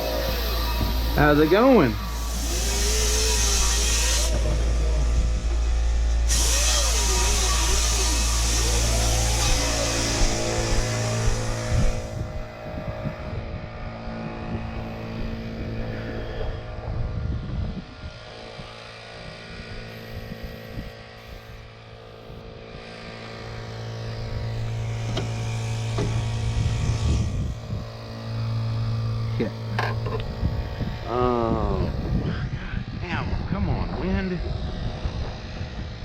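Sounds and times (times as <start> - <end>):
motor humming: 0.0 - 33.4
wind buffeting microphone: 0.0 - 36.0.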